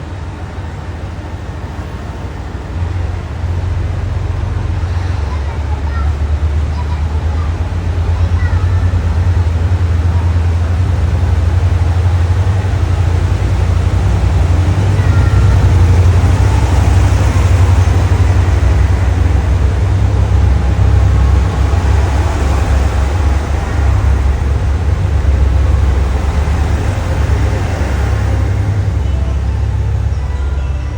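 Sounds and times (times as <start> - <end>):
diesel train engine rumbling: 0.0 - 30.9.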